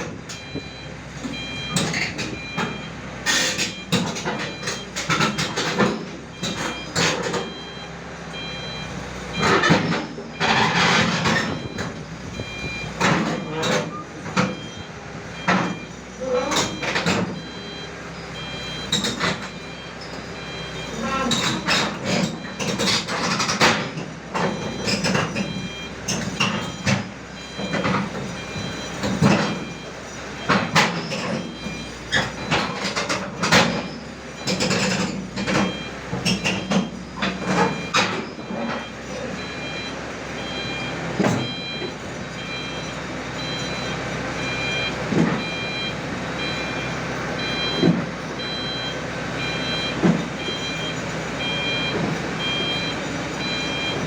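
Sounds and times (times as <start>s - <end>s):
diesel engine running under load: 0.0s - 54.0s
reversing alarm beeping: 0.0s - 54.0s.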